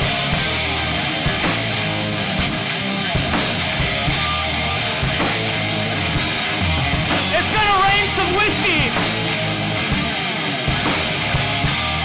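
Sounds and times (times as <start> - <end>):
bass drum beat: 0.0 - 12.0
distorted electric guitar: 0.0 - 12.0
rock band playing: 0.0 - 12.0.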